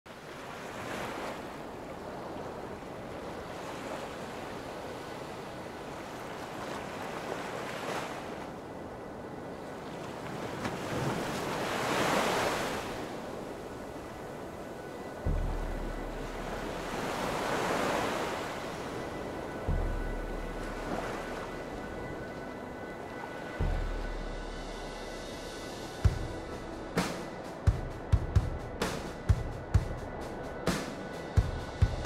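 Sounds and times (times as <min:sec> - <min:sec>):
ocean waves breaking: 0:00.1 - 0:32.0.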